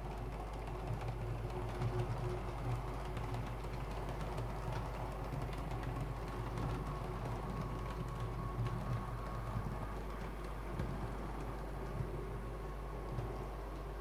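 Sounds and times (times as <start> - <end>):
wheels ticking on rails: 0.0 - 14.0.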